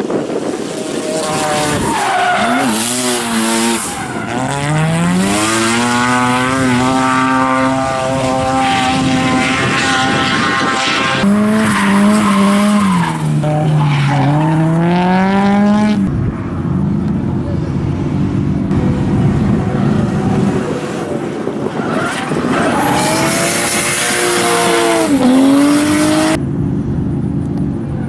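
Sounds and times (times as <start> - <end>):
tyres skidding: 0.0 - 26.4
car engines revving high: 0.0 - 28.0.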